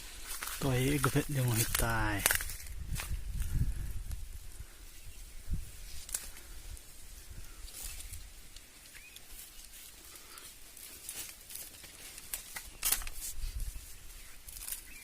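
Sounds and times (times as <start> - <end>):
rustles and crackles: 0.0 - 15.0.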